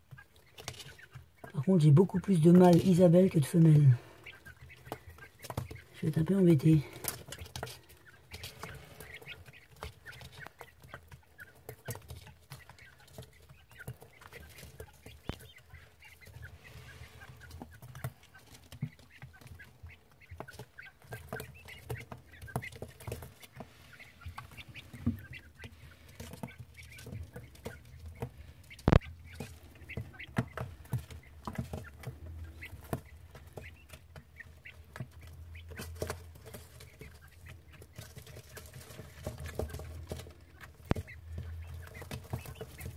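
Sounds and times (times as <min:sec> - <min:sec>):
quail chicks calling softly: 0:00.0 - 0:42.9.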